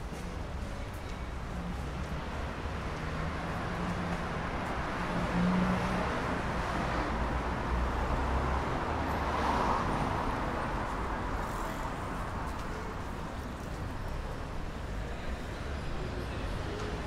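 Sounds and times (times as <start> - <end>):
passing cars: 1.6 - 17.0.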